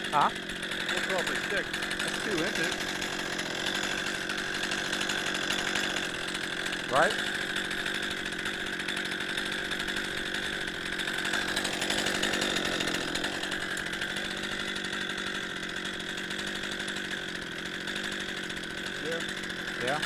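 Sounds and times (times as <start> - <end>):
chainsaw ripping through log: 0.0 - 20.0.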